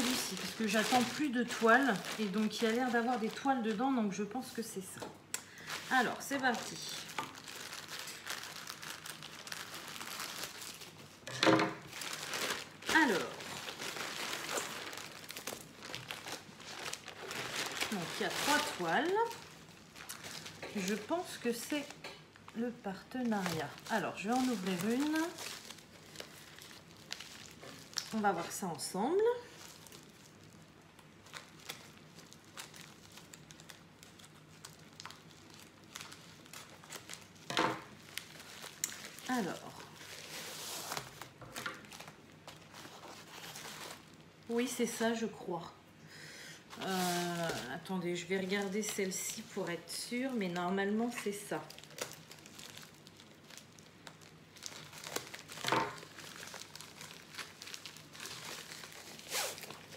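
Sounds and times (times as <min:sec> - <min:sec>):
plastic crinkling: 0:00.0 - 0:45.2, 0:46.7 - 0:59.9.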